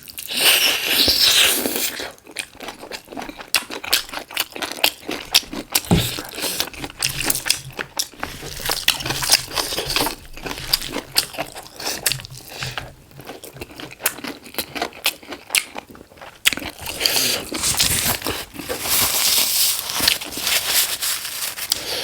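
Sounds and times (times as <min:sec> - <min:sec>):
chewing and crunching chicken: 0:00.0 - 0:22.0.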